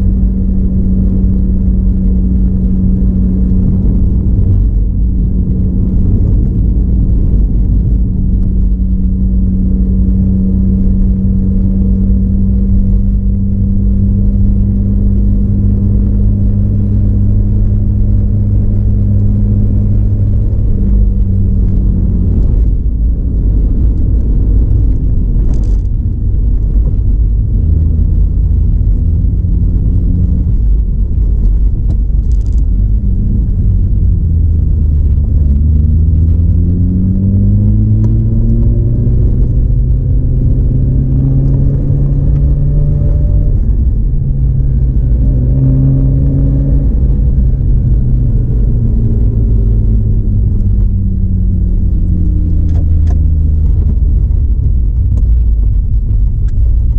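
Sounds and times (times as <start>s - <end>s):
low road rumble: 0.0s - 56.9s
rotary car engine: 0.0s - 56.9s.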